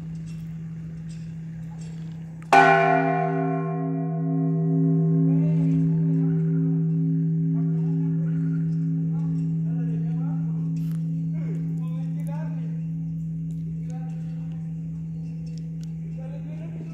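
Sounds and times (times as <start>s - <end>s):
church bell ringing: 1.4s - 16.9s.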